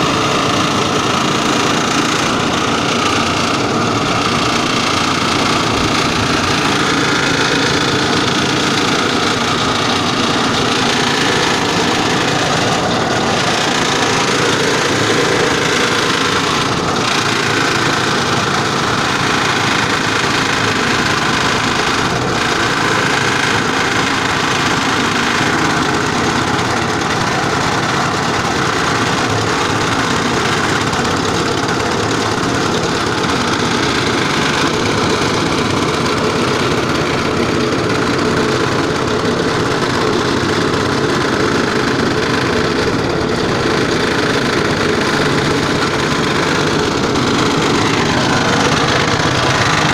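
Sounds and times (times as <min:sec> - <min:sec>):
feed chopper machine running: 0:00.0 - 0:49.9.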